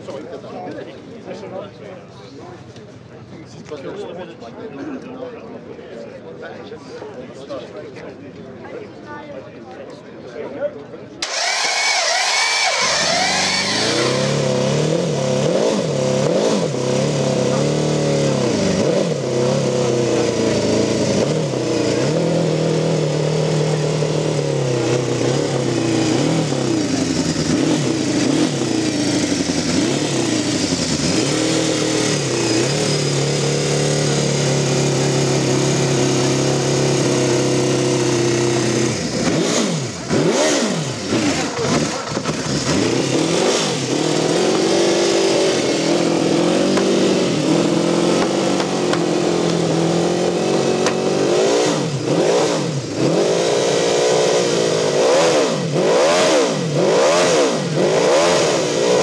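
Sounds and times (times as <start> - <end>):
race engine revving: 11.2 - 59.0.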